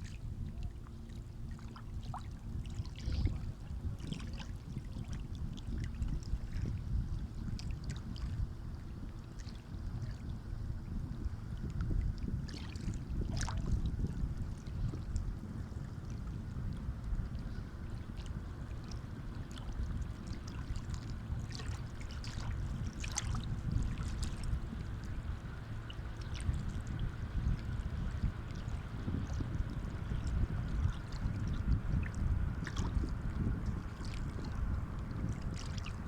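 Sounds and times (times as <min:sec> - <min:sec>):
small water splashes: 0:00.0 - 0:10.3, 0:11.2 - 0:36.0.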